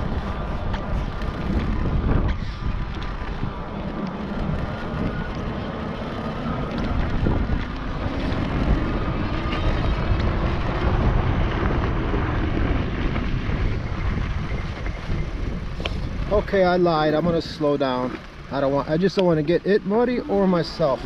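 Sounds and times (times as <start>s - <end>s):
wind rush on microphone: 0.0s - 21.0s.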